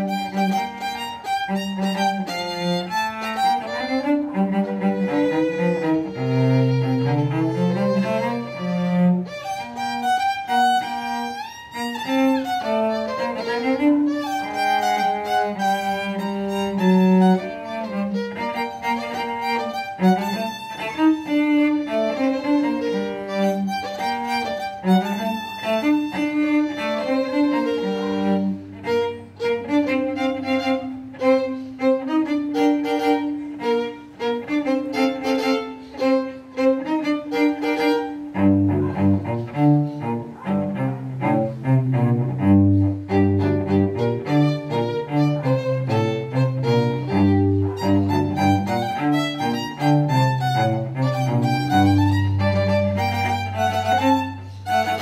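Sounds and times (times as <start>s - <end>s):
bowed cello: 0.0s - 55.0s
violin melody: 0.0s - 55.0s.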